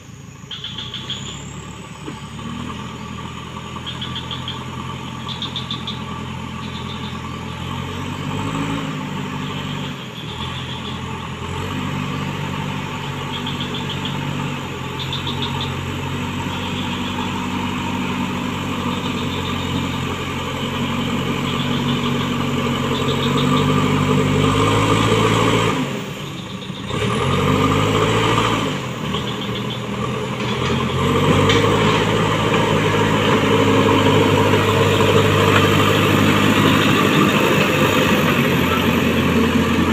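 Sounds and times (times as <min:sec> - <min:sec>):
backhoe diesel engine working: 0:00.0 - 0:39.9.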